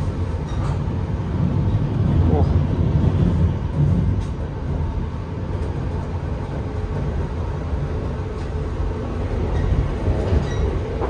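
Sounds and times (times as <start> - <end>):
train rumbling in tunnel: 0.0 - 11.0.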